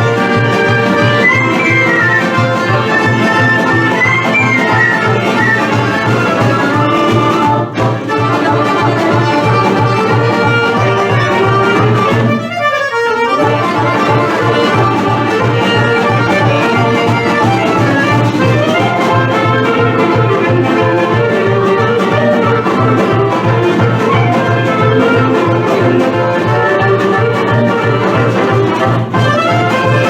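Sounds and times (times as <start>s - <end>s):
instrumental folk dance music: 0.0s - 30.0s.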